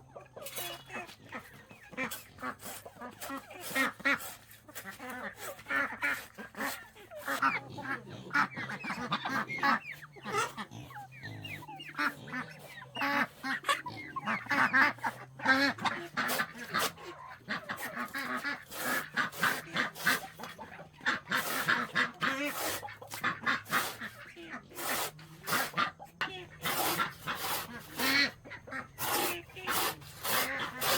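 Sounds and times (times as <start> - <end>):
waterfowl honking: 5.1 - 30.9.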